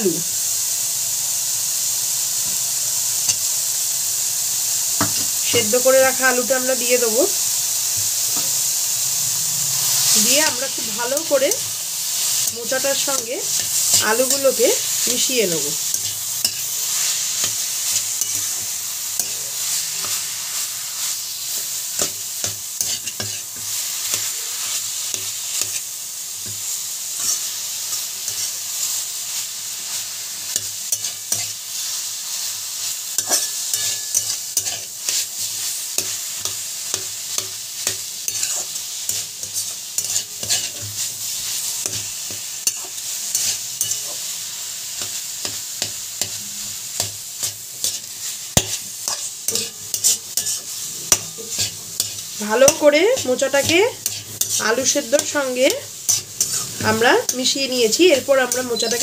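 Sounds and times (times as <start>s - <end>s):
oil sizzling: 0.0s - 59.0s
spatula scraping a wok: 5.0s - 59.0s.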